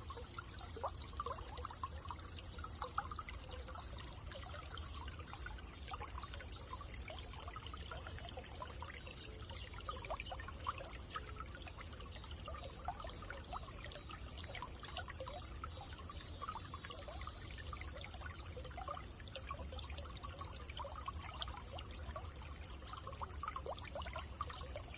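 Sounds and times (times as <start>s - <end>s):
stream babbling over stones: 0.0s - 24.9s.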